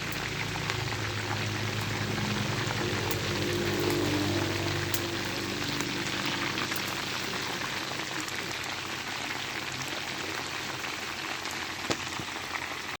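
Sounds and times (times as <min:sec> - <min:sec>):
chicken frying in a pan: 0:00.0 - 0:13.0.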